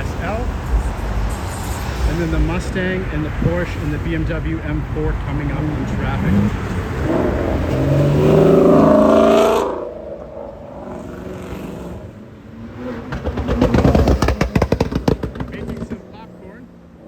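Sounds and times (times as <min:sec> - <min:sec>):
car exhausts accelerating: 0:00.0 - 0:17.0
engine revving: 0:00.0 - 0:17.0
rough pulsing exhaust: 0:00.0 - 0:17.0.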